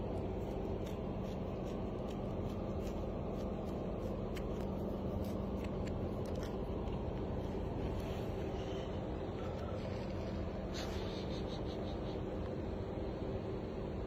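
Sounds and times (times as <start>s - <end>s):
faint hum: 0.0s - 14.0s
low background rumble: 0.0s - 14.0s.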